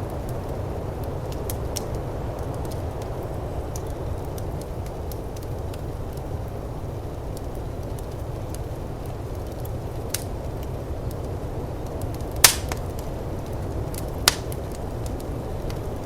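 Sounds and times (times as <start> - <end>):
burning wood popping: 0.0 - 16.0
firepit crackling: 0.0 - 16.0
low rumble of wind: 0.0 - 16.0.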